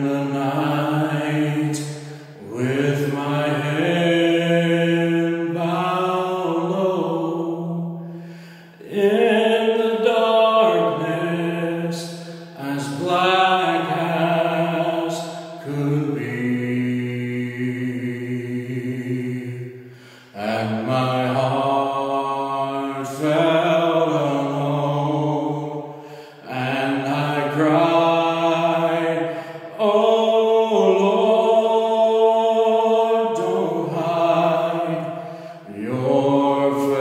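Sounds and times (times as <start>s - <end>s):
man singing a hymn: 0.0s - 37.0s.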